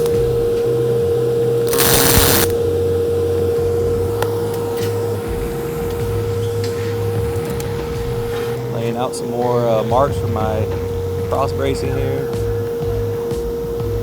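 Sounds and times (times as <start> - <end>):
welding arc crackling: 0.0 - 14.0
welding machine hum: 0.0 - 14.0.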